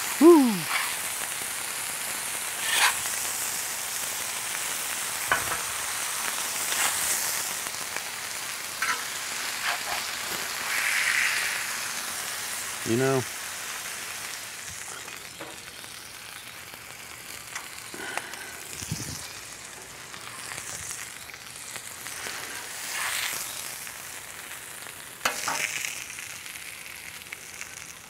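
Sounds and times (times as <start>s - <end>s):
food sizzling on a griddle: 0.0s - 28.0s.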